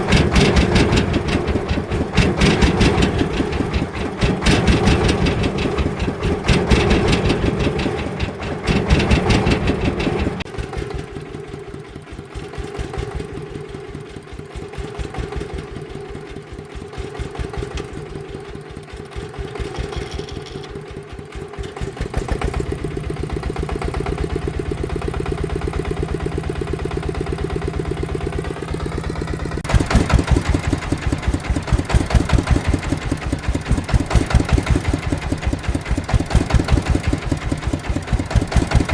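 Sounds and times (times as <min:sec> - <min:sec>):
farm vehicle engine running: 0:00.0 - 0:38.9.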